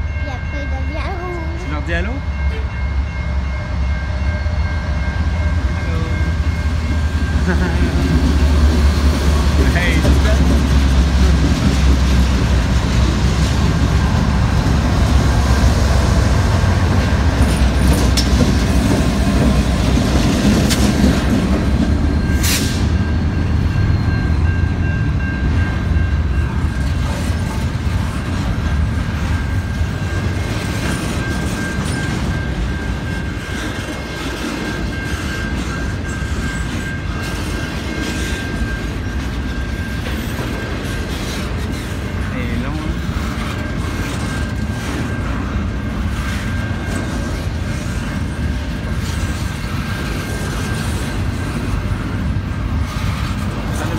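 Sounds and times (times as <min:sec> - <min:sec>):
diesel locomotive rumble: 0:00.0 - 0:53.9.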